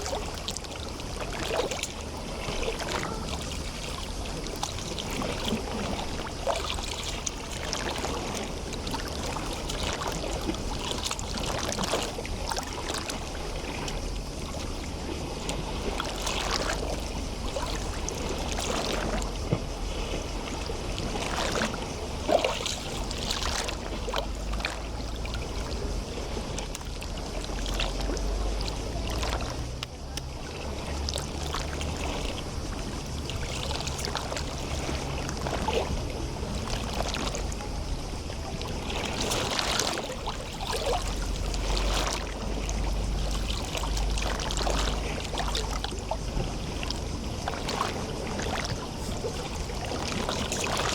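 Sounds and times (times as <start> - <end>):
small waves lapping: 0.0 - 50.9.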